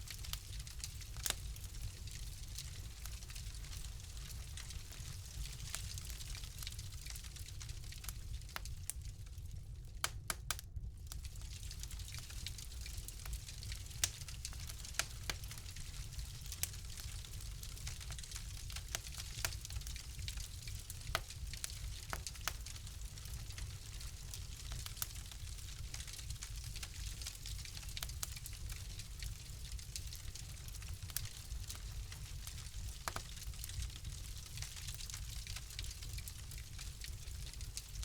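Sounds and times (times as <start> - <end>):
fire low rumble: 0.0 - 38.0
fire pops and snaps: 0.1 - 38.0.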